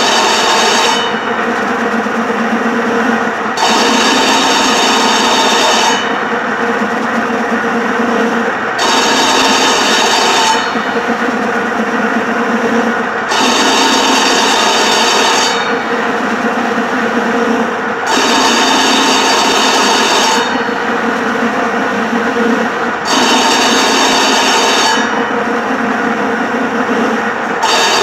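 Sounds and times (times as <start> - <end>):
cutting machine running: 0.0 - 28.0
machine whine: 0.0 - 28.0.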